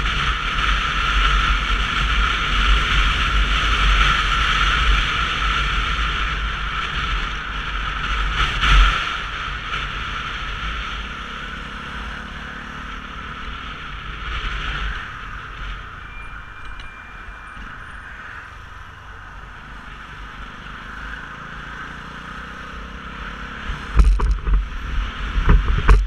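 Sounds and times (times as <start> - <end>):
motorcycle road noise: 0.0 - 26.0.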